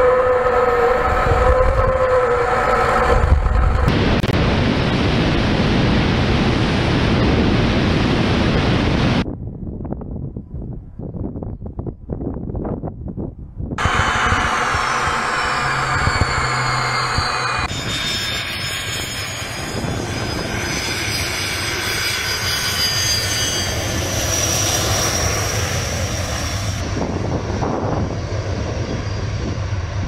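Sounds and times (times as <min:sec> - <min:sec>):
jet engines rumbling and whining: 0:00.0 - 0:09.5, 0:13.6 - 0:30.0.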